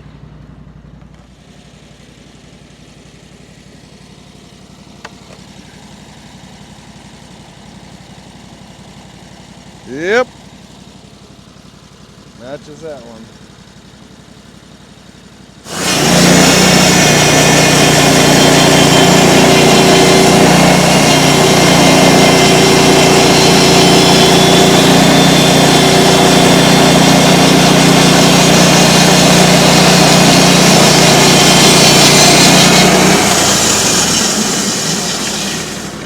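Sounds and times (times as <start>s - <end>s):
band sawmill running: 1.0s - 36.0s.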